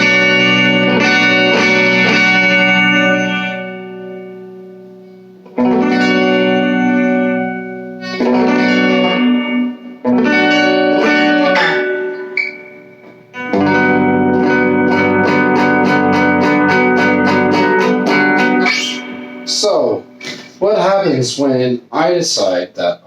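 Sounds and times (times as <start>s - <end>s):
electric guitar chords strummed: 0.0s - 20.6s.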